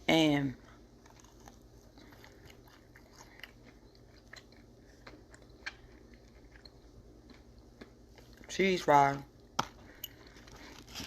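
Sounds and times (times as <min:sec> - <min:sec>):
low steady hum: 0:00.0 - 0:11.0
person chewing food: 0:00.5 - 0:08.5, 0:09.3 - 0:11.0.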